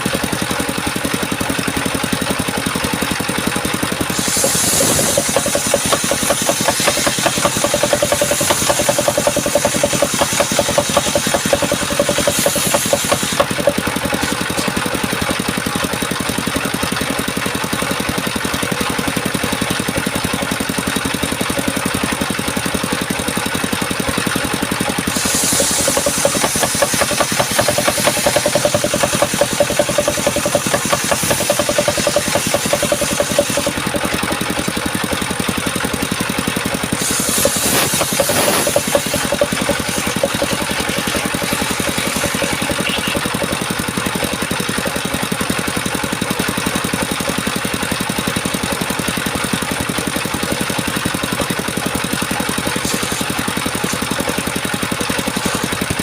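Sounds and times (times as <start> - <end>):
engine driving circular saw: 0.0 - 56.0.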